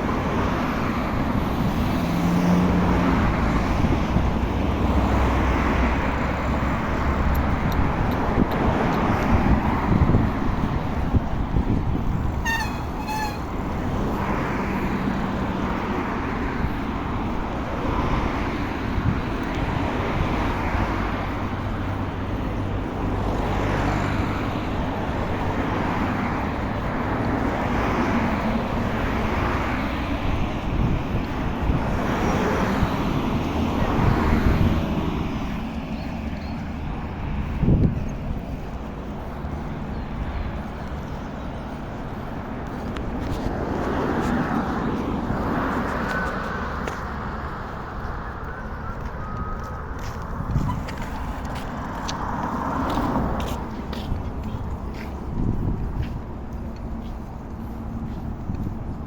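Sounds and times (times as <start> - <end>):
wind rush: 0.0 - 40.7, 41.7 - 59.0
cars passing: 0.0 - 59.0
road traffic noise: 0.0 - 59.0.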